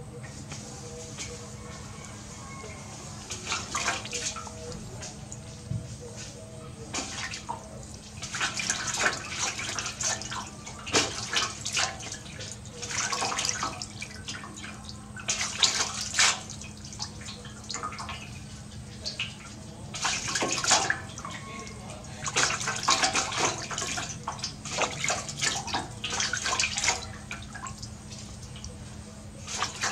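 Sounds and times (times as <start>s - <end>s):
water splashing in metal basin: 2.0s - 5.4s, 6.9s - 29.9s.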